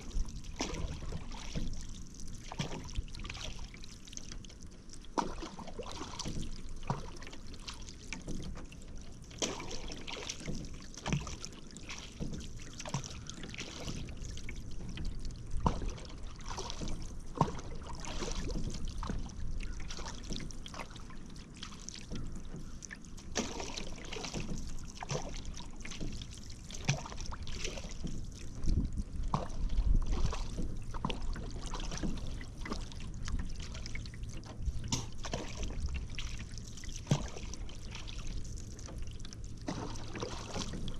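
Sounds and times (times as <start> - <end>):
paddle splashing in water: 0.0 - 40.9
water dripping off paddle: 0.0 - 40.9.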